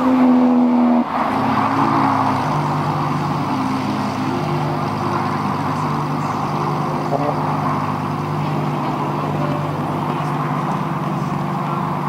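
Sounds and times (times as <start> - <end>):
car engine running at low revs: 0.0 - 12.0
steady background noise: 0.0 - 12.0.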